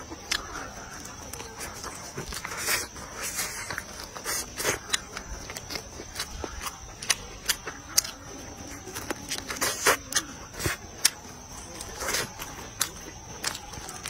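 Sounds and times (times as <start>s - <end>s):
person chewing and lip smacking: 0.0s - 14.0s.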